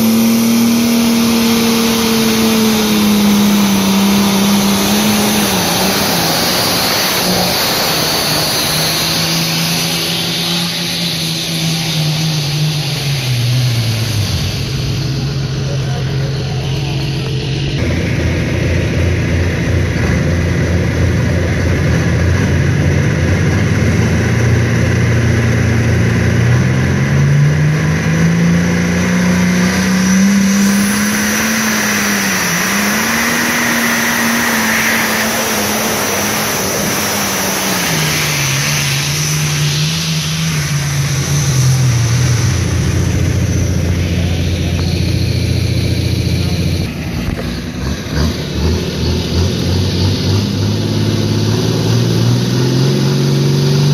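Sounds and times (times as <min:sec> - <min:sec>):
diesel tractor engine under load: 0:00.0 - 0:53.9.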